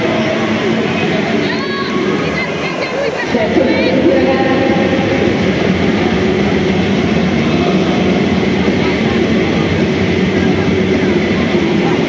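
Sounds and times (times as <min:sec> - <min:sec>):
crowd voices: 0:00.0 - 0:12.0
rowing machines whirring: 0:00.0 - 0:12.0.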